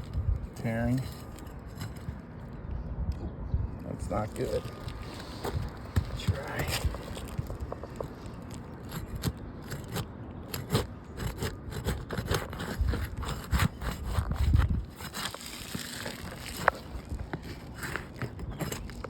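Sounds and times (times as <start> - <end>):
roof shingles scraping and crackling: 0.0 - 2.2, 4.2 - 19.0.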